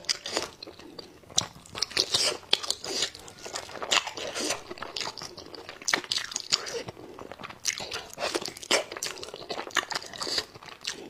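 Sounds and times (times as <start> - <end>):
chewing with crisp crunches: 0.0 - 11.0.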